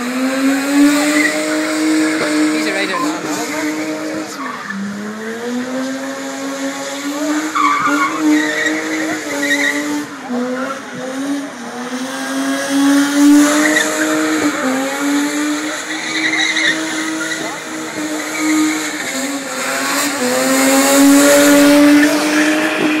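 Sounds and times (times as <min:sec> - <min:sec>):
car engine at high revs: 0:00.0 - 0:23.0
tyres spinning on wet tarmac: 0:00.0 - 0:23.0.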